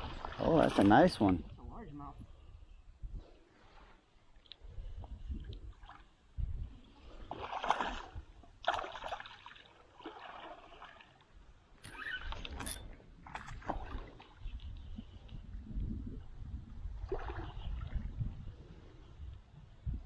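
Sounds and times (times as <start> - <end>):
water splashing around kayak: 0.0 - 1.5, 3.6 - 15.6, 16.2 - 19.4.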